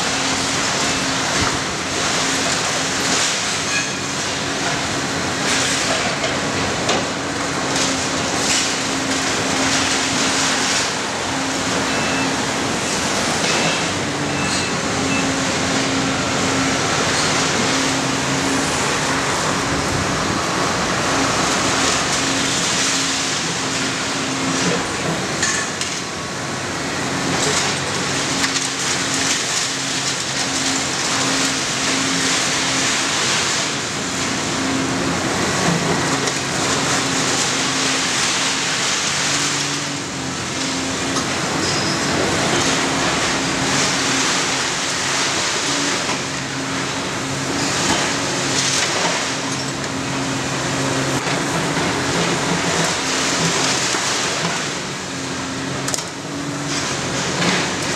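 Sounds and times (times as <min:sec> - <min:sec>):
excavator diesel engine: 0:00.0 - 0:57.9.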